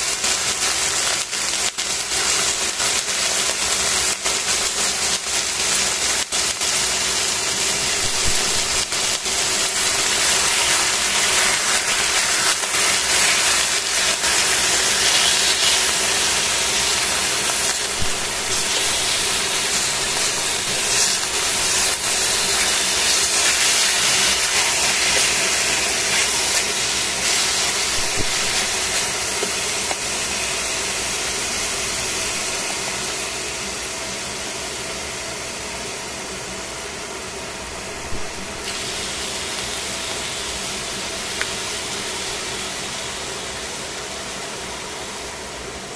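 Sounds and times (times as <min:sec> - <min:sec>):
chicken sizzling in frying pan: 0:00.0 - 0:45.8.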